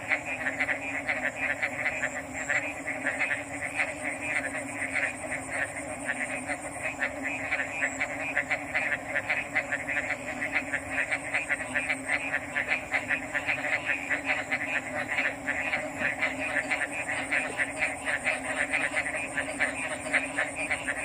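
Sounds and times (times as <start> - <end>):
frogs croaking in chorus: 0.0 - 21.0.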